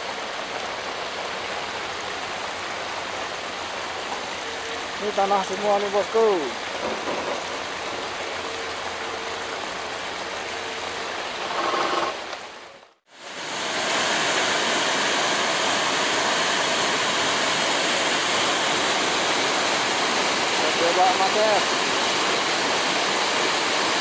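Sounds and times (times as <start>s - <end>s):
heavy rain: 0.0s - 24.0s
running water: 0.0s - 24.0s.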